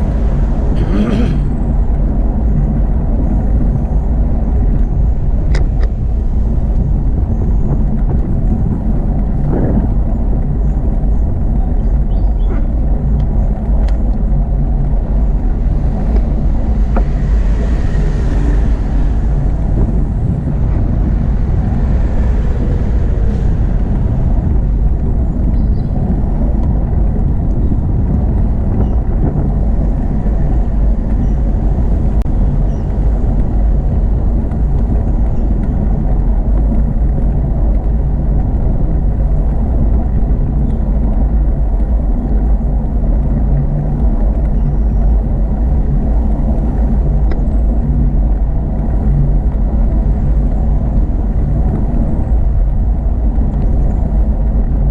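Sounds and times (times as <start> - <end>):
motorway traffic noise: 0.0 - 54.9
wind buffeting microphone: 0.0 - 54.9.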